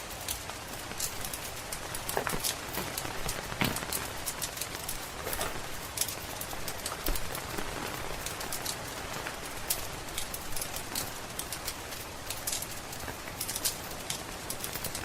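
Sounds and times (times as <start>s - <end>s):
rain pattering on a roof: 0.0s - 15.0s
wood fire crackling and popping: 0.0s - 15.0s.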